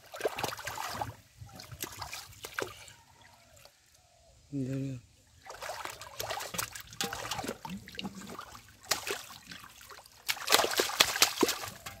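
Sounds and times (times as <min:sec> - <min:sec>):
fish splashing in shallow water: 0:00.0 - 0:03.8, 0:05.4 - 0:12.0.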